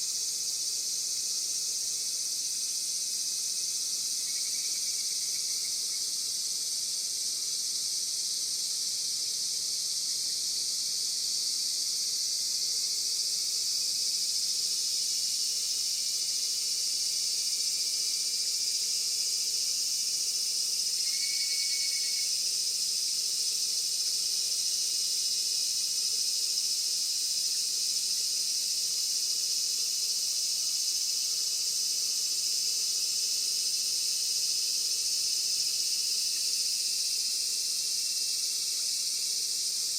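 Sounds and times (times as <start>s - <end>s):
insect chorus hissing: 0.0s - 39.9s.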